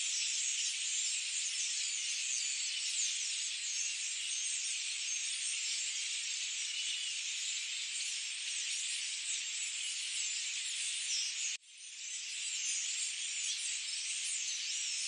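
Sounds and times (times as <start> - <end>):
chorus of birds chirping: 0.0 - 15.0.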